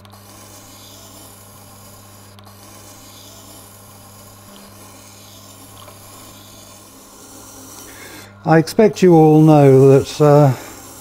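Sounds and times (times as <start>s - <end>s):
blade grinding on wet stone: 0.0s - 8.4s, 9.1s - 11.0s
grinder motor hum: 0.0s - 11.0s.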